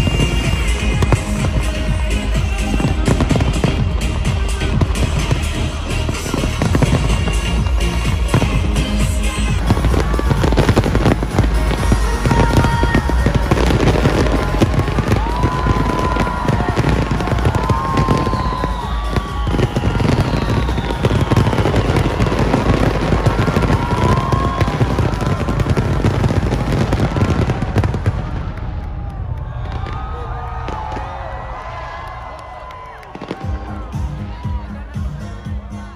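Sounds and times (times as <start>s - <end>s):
fireworks bangs and crackling: 0.0s - 35.9s
music playing: 0.0s - 35.9s.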